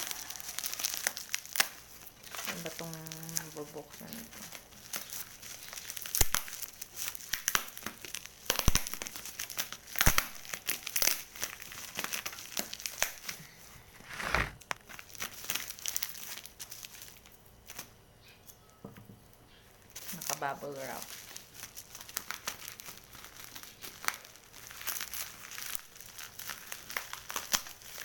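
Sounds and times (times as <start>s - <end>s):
plastic wrapping crackling and rustling: 0.0s - 18.0s, 19.7s - 28.0s.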